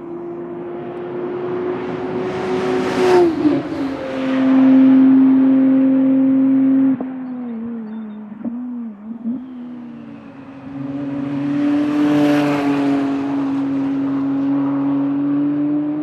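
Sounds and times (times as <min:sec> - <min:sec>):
car engine accelerating past: 0:00.0 - 0:16.0.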